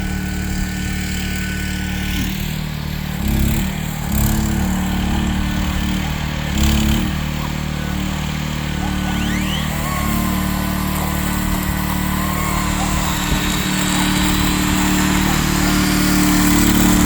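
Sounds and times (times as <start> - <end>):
small engine running and revving: 0.0 - 17.0.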